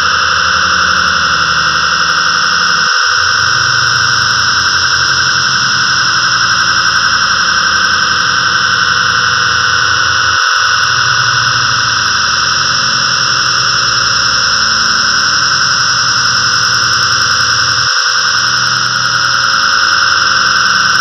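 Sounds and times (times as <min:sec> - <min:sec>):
synthesized storm noise: 0:00.0 - 0:21.0.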